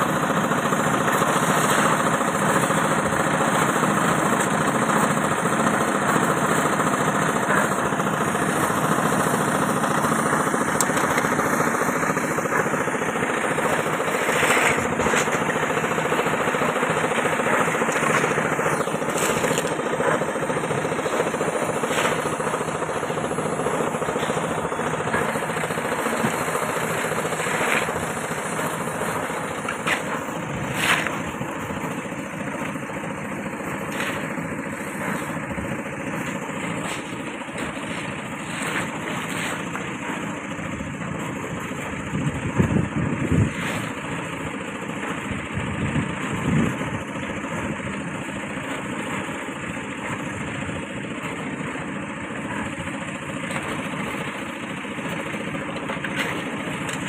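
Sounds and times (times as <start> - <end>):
engine running: 0.0 - 57.0
shovel scraping and clatter: 0.1 - 42.0, 43.2 - 45.1, 51.2 - 57.0.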